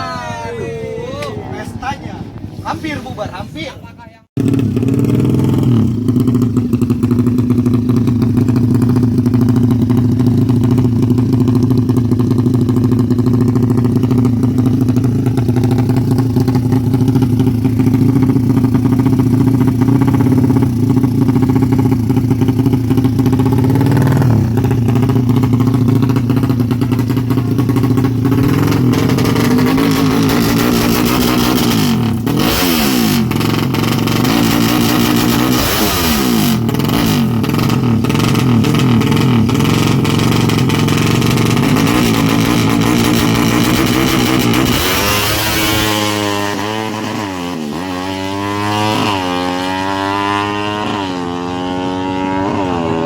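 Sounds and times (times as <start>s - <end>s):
motorcycle engine running: 3.8s - 53.0s.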